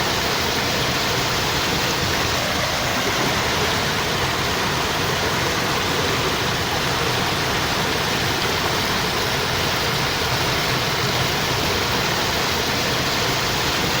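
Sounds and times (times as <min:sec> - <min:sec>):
water flowing: 0:00.0 - 0:14.0.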